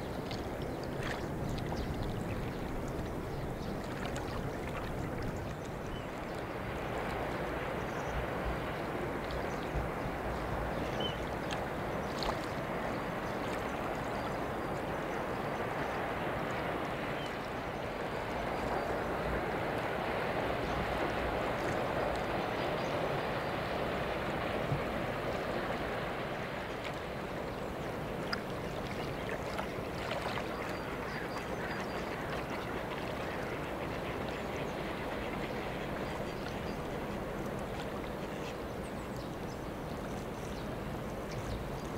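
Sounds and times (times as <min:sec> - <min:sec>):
rushing water from boat wake: 0:00.0 - 0:41.9.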